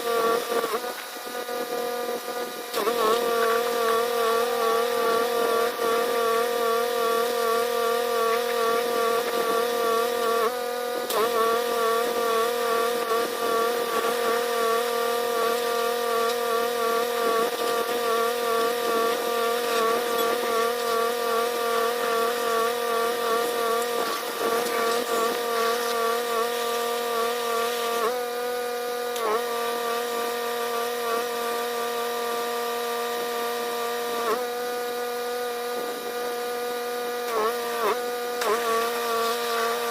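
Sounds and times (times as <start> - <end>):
pressure washer pump hum: 2.1 - 37.4.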